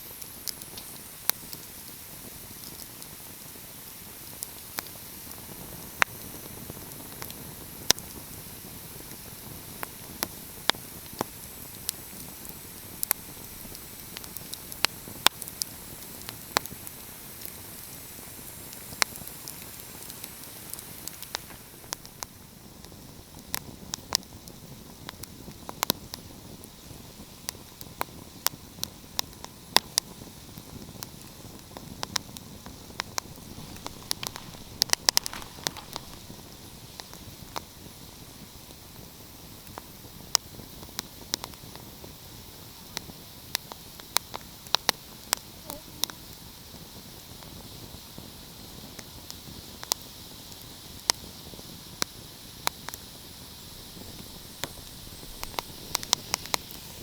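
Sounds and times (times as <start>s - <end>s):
steady hiss: 0.0s - 57.0s
wood fire crackling: 0.0s - 57.0s.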